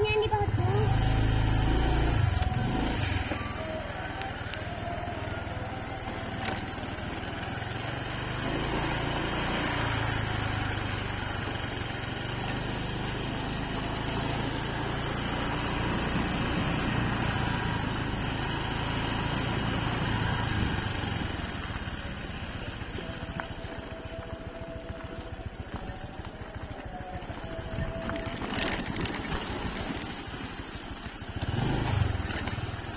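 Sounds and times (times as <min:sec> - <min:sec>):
engine running low-pitched: 0:00.0 - 0:32.9.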